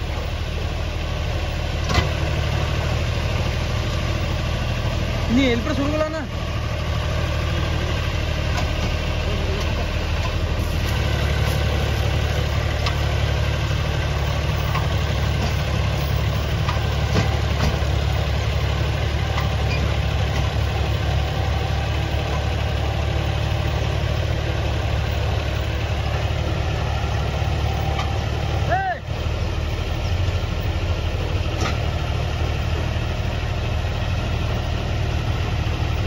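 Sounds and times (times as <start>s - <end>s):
diesel tractor engine idling: 0.0s - 36.0s.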